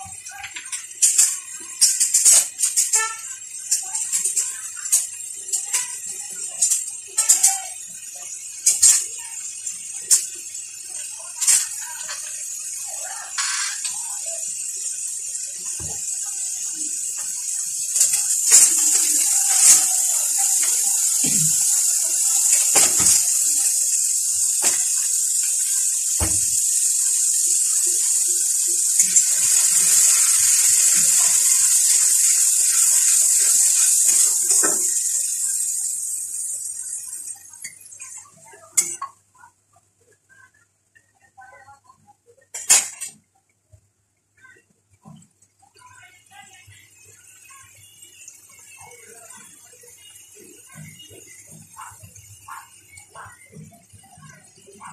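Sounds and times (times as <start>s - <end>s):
masala sizzling in hot oil: 0.0s - 43.2s, 44.4s - 54.9s.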